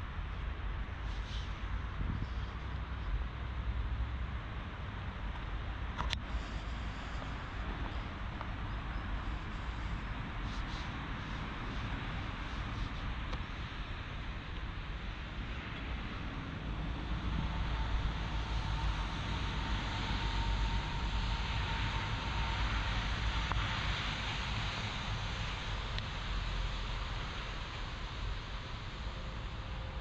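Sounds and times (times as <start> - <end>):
faint steady whine: 0.0 - 30.0
steady low rumble: 0.0 - 30.0.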